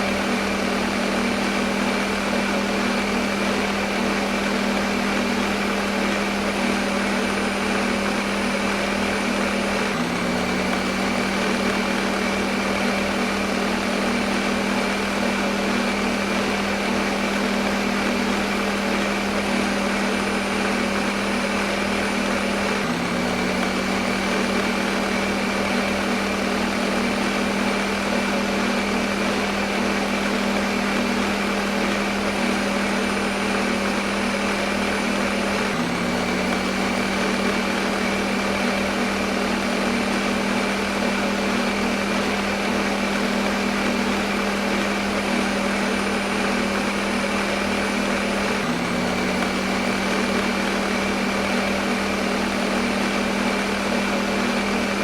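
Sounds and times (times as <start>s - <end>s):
electric blender motor running: 0.0s - 55.0s.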